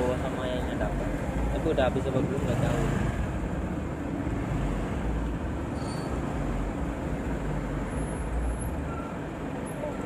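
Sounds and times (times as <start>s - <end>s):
outdoor vehicle noise: 0.0s - 10.0s.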